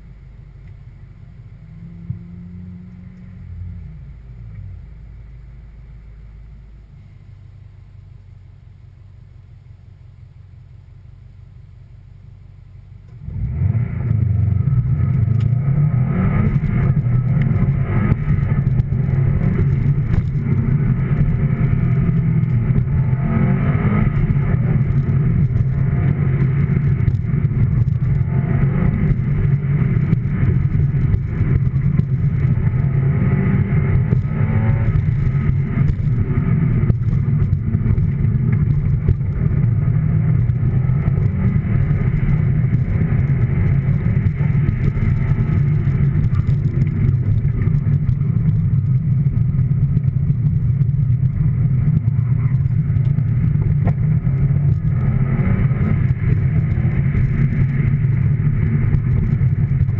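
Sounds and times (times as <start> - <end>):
low rumble of motor vehicle: 0.0 - 59.9.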